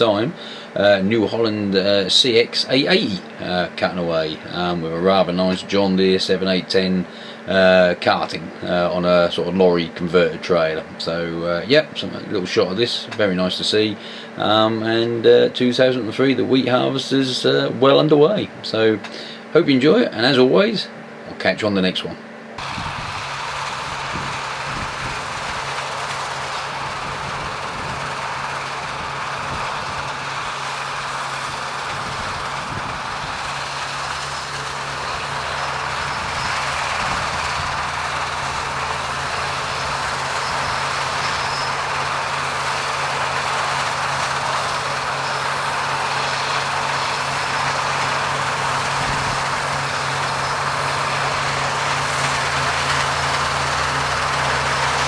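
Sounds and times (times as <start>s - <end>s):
combine harvester engine: 0.0s - 21.5s, 22.3s - 55.0s
threshing machinery noise: 0.0s - 55.0s.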